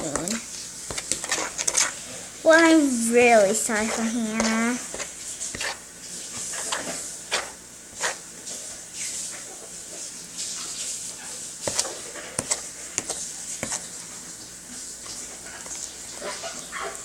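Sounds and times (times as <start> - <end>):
slime squelching: 0.0 - 9.2, 11.2 - 14.0, 15.0 - 17.0.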